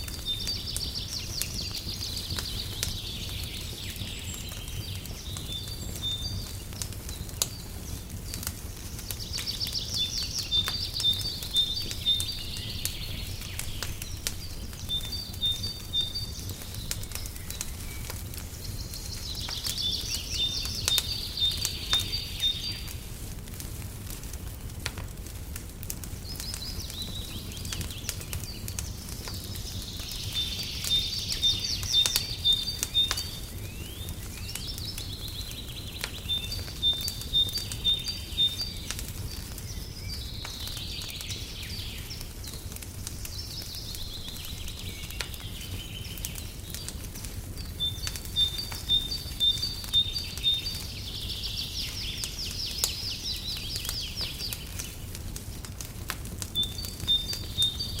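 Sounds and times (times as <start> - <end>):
songbirds singing trills: 0.0 - 23.1, 26.0 - 55.8, 56.4 - 58.0
wood fire crackling: 0.0 - 58.0.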